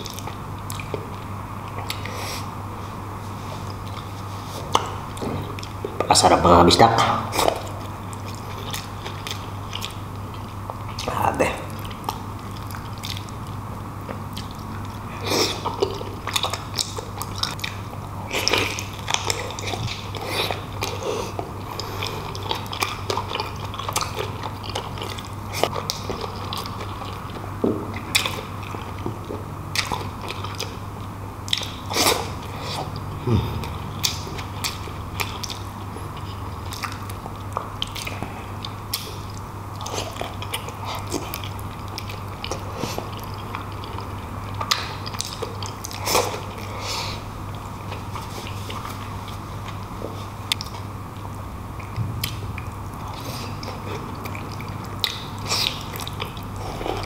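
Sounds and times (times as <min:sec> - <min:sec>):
wet chewing and lip-smacking: 0:00.0 - 0:02.2, 0:07.4 - 0:11.1, 0:11.7 - 0:30.8, 0:31.4 - 0:46.8, 0:47.5 - 0:57.0
steady low hum: 0:00.0 - 0:57.0.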